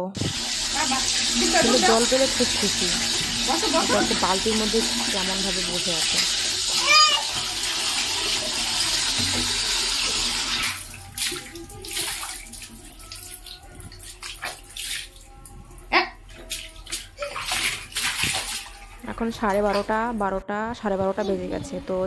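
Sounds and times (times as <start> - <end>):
water running: 0.0 - 22.0
child splashing water in bucket: 0.2 - 15.4, 16.3 - 20.0.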